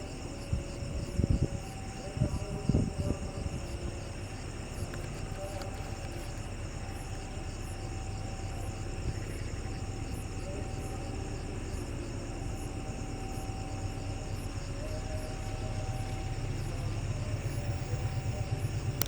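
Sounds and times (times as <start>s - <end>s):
diesel locomotive rumbling: 0.0s - 19.0s
insects chirping: 0.0s - 19.0s.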